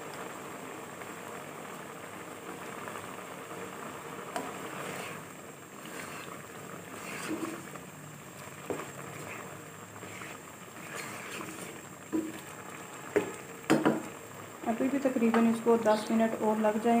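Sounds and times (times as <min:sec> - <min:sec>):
sauce boiling in a pot: 0:00.0 - 0:17.0.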